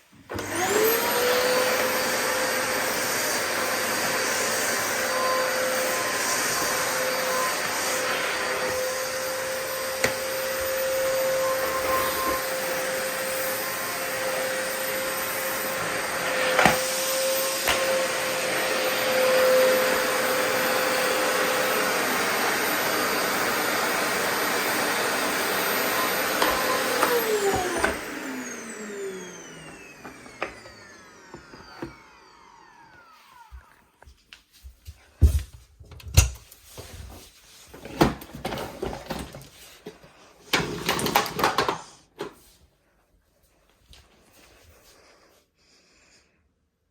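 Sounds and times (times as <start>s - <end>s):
vacuum cleaner running: 0.0s - 34.2s, 37.8s - 42.5s.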